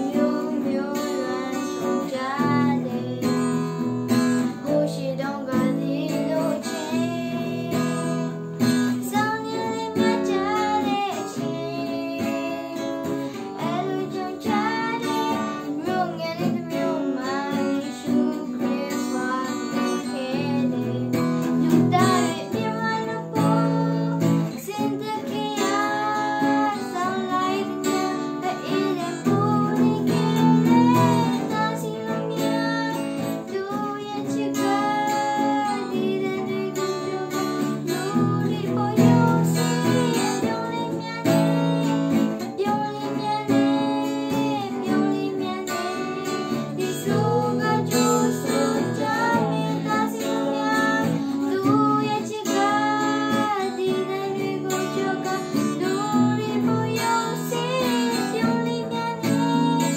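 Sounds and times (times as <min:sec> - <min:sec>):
girl singing: 0:00.0 - 0:59.9
strummed acoustic guitar: 0:00.0 - 0:59.9.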